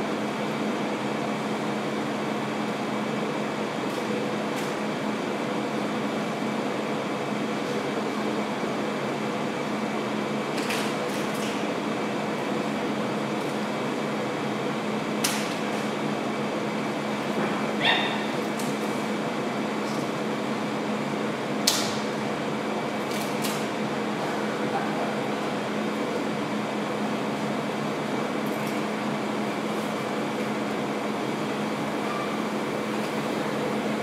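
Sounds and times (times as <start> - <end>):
air conditioner hum: 0.0 - 34.0.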